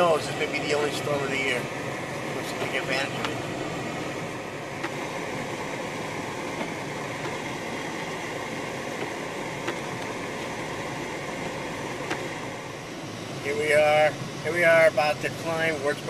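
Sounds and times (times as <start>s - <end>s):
car road and engine noise: 0.0s - 16.0s
tyres on snow: 0.0s - 16.0s.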